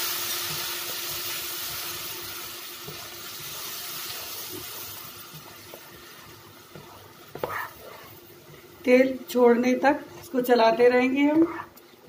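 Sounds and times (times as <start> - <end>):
sauce sizzling in hot oil: 0.0 - 12.0.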